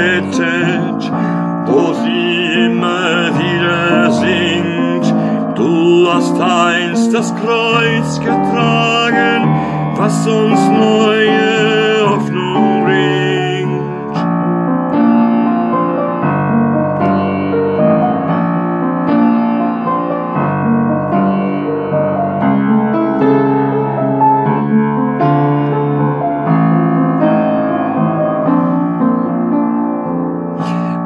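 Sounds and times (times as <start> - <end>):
piano sustained chords: 0.0 - 31.0.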